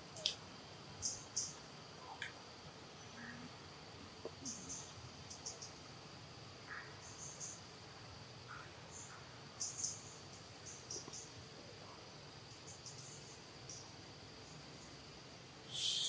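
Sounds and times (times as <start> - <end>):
high insect chirps: 0.0 - 16.0
insect drone: 0.0 - 16.0.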